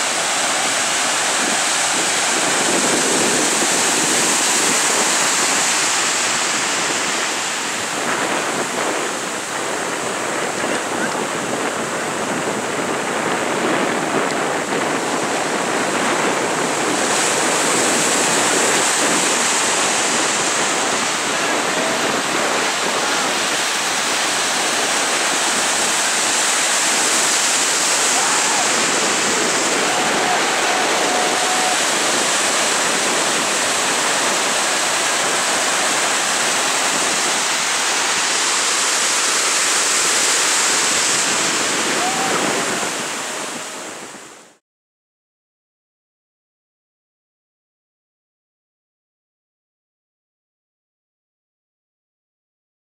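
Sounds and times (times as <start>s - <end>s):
surf waves breaking: 0.0s - 44.6s.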